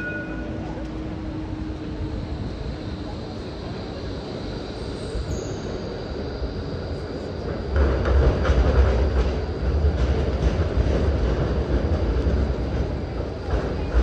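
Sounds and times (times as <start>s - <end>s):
trams rumbling on rails: 0.0s - 14.0s.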